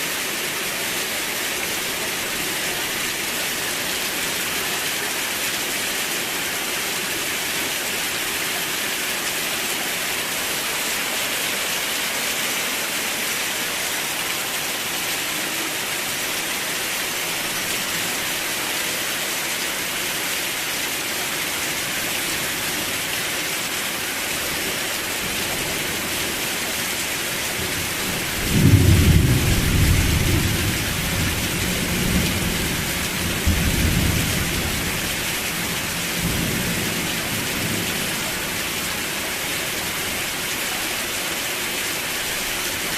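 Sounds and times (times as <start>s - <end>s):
rain hiss: 0.0s - 42.9s.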